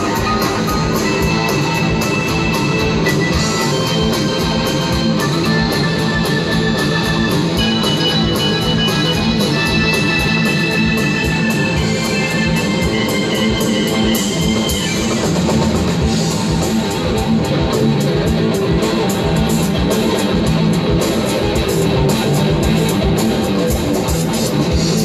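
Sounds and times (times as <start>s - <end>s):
fast drum beat: 0.0s - 25.0s
organ-like keyboard chords: 0.0s - 25.0s.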